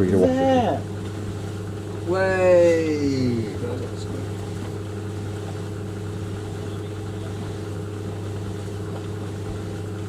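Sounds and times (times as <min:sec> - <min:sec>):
tumble dryer humming: 0:00.0 - 0:10.0.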